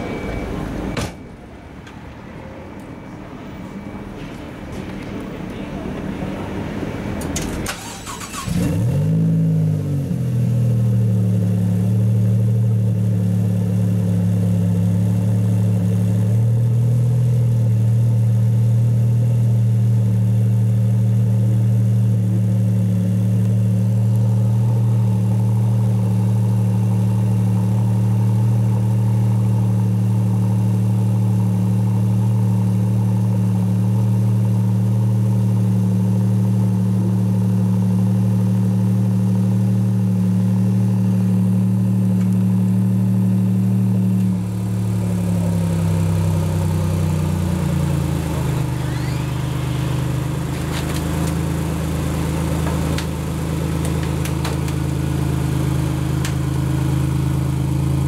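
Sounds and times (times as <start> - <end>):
car engine starting and idling: 4.9 - 58.0.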